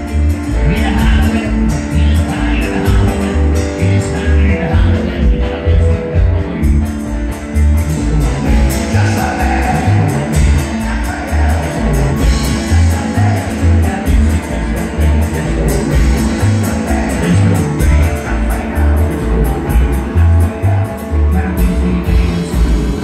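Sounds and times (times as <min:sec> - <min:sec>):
man singing: 0:00.0 - 0:07.2, 0:07.8 - 0:23.0
electric guitar: 0:00.0 - 0:23.0
upright bass: 0:00.0 - 0:23.0.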